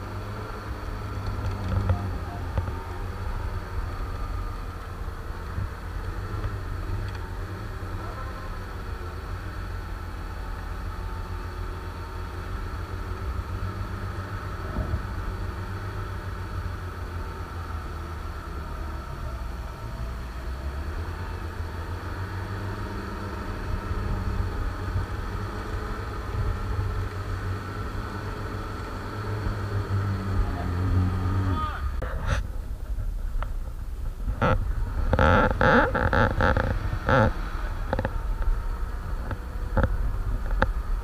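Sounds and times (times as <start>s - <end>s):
vehicle engine running at low revs: 0.0s - 41.0s.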